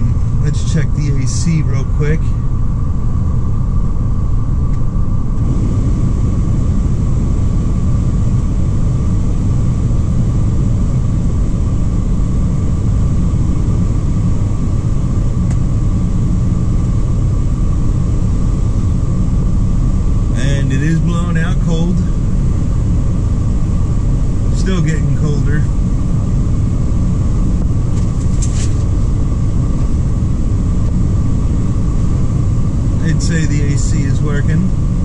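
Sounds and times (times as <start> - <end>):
blower fan pushing air: 0.0 - 35.0
van engine running: 0.0 - 35.0.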